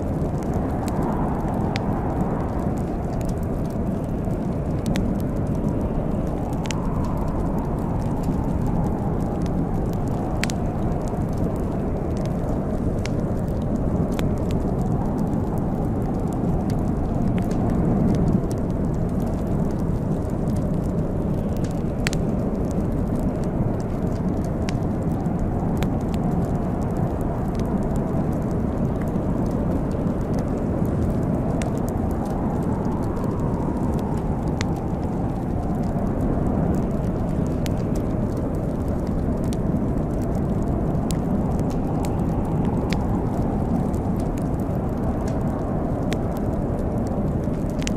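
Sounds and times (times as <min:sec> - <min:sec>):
sharp snaps and pops: 0:00.0 - 0:47.9
wood fire crackling: 0:00.0 - 0:47.9.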